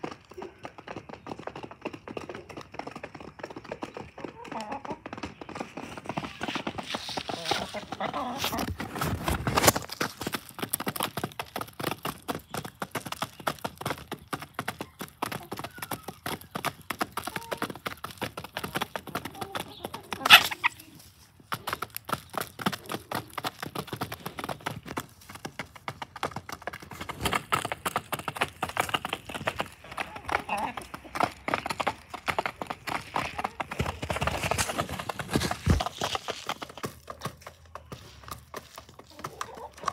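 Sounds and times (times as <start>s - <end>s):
hens clucking: 0.0s - 12.3s, 13.1s - 39.9s.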